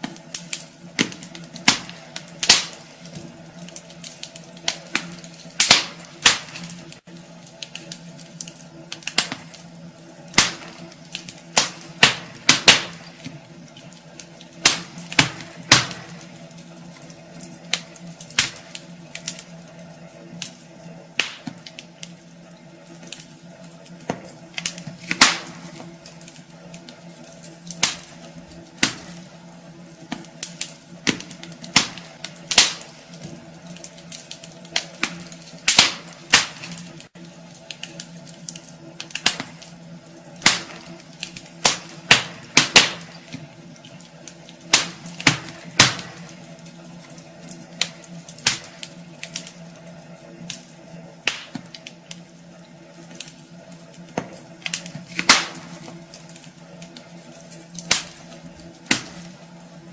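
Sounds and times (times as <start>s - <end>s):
logs crackling and popping: 0.0s - 59.9s.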